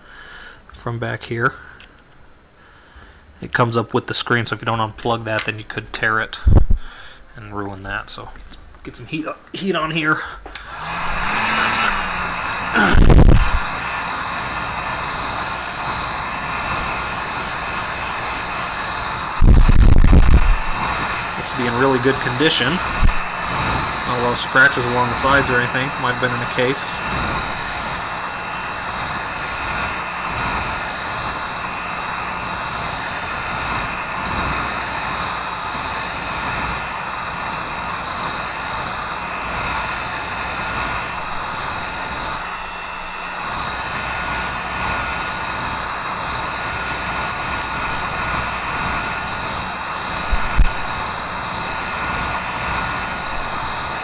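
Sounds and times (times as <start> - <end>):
hot-air blower running: 10.0 - 54.0.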